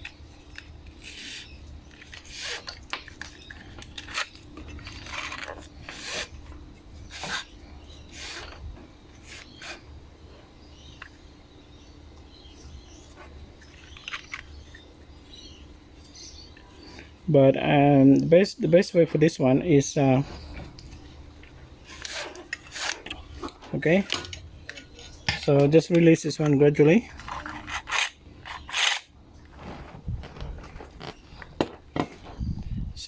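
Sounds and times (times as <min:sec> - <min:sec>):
scraping and rubbing handling noises: 0:00.0 - 0:11.3, 0:12.3 - 0:17.2, 0:20.1 - 0:32.9.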